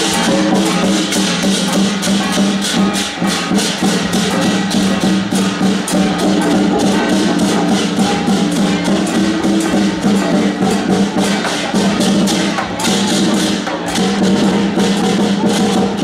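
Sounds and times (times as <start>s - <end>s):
cymbals and gongs struck rapidly: 0.0s - 16.0s
drums: 0.0s - 16.0s.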